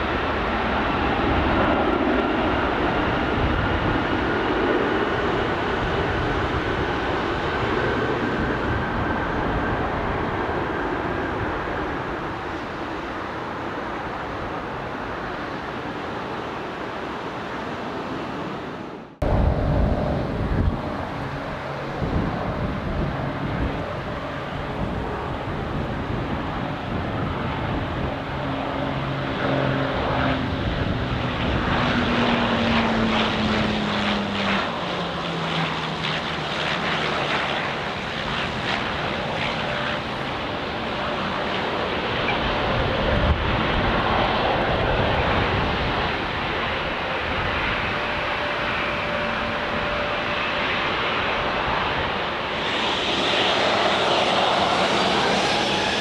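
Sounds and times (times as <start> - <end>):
propeller plane engines droning: 0.0 - 56.0
steady rushing noise: 0.0 - 56.0.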